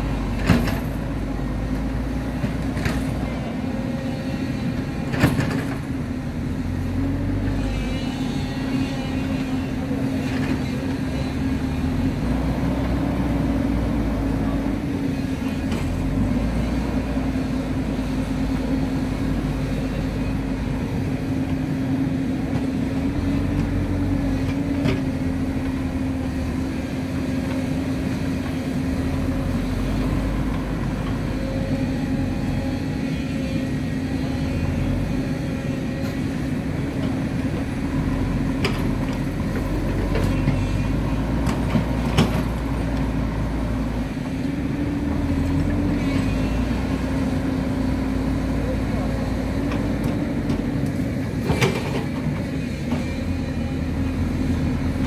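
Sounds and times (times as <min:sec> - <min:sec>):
backhoe diesel engine running: 0:00.0 - 0:55.0.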